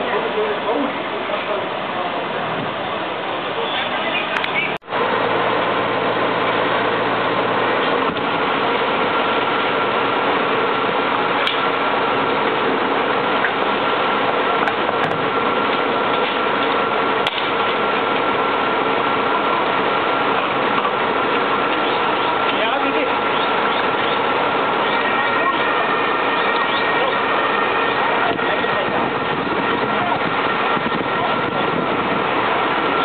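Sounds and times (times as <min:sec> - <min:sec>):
fire engine droning: 0:00.0 - 0:33.0.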